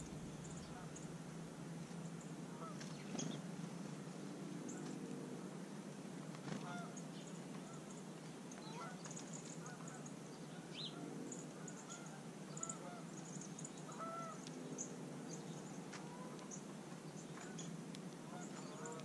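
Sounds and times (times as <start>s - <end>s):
birds calling: 0.0s - 3.5s, 6.4s - 19.0s.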